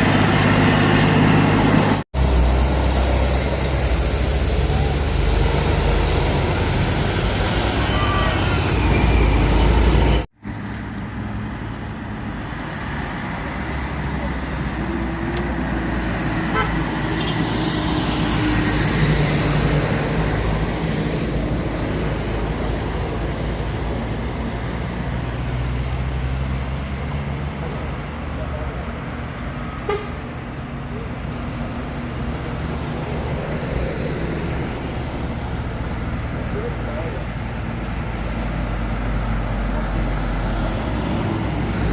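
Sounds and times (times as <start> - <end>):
steady traffic noise: 0.0 - 41.9
truck engine and road noise: 0.0 - 41.9.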